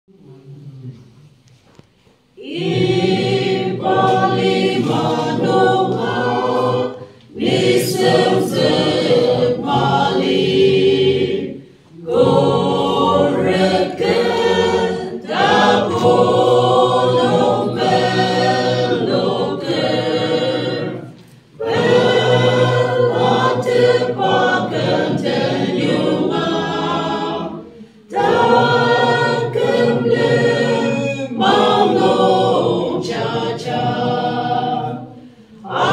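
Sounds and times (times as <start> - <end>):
mixed choir singing unaccompanied: 2.4 - 35.9.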